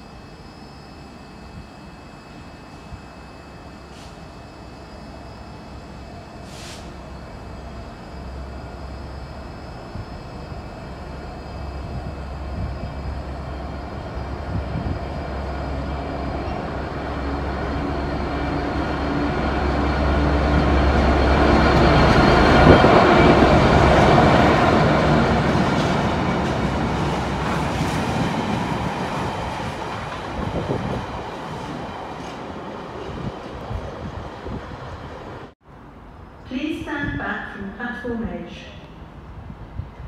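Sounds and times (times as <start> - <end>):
low hum of standing train: 0.0 - 40.0
diesel locomotive passing: 1.9 - 36.8.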